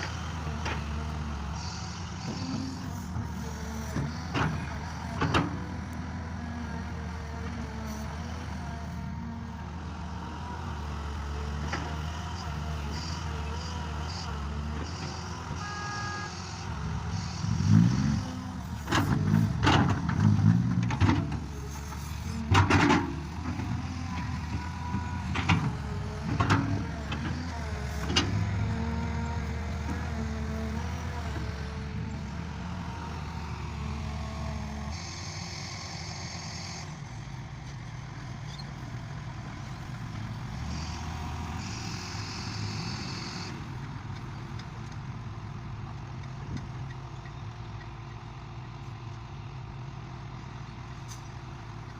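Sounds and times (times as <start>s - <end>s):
farm machinery engine running: 0.0s - 51.9s.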